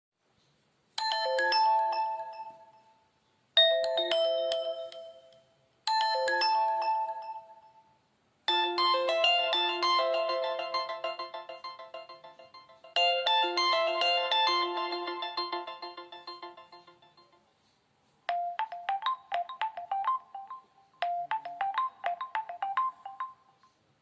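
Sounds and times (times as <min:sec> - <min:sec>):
phone chiming melodies: 0:01.0 - 0:03.0, 0:03.6 - 0:07.9, 0:08.5 - 0:17.4, 0:18.3 - 0:23.7
phone ringtone melody: 0:01.0 - 0:03.0, 0:03.6 - 0:07.9, 0:08.5 - 0:17.4, 0:18.3 - 0:23.7.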